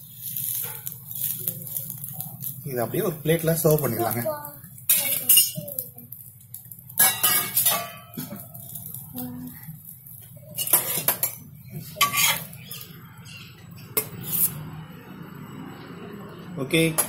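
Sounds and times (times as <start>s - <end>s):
metal utensils clanking on griddle: 0.0s - 14.6s
utensils scraping on griddle: 0.0s - 14.7s.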